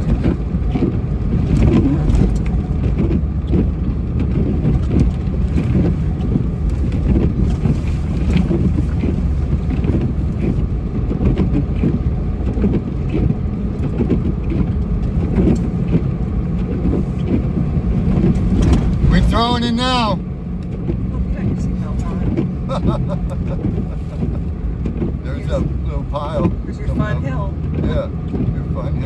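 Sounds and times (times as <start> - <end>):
snow plow truck engine rumble: 0.0 - 29.0.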